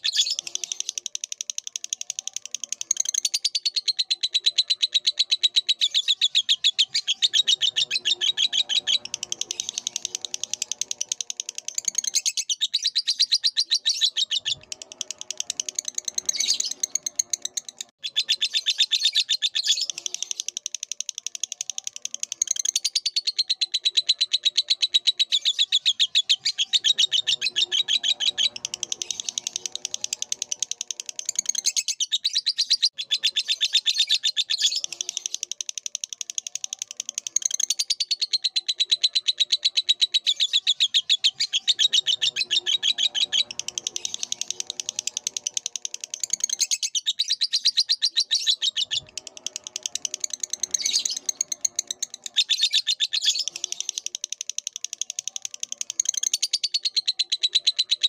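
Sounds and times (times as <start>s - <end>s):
lovebird chattering: 0.0s - 58.0s.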